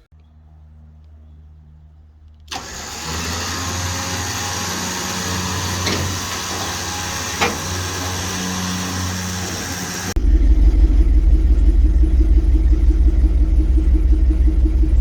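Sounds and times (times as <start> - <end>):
vehicle engine running: 2.4 - 15.0.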